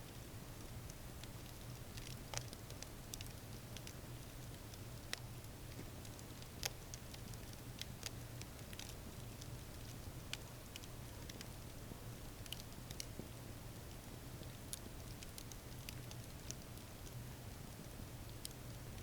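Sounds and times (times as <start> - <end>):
faint steady low hum: 0.0 - 19.0
campfire crackling and popping: 0.6 - 11.6, 12.3 - 19.0.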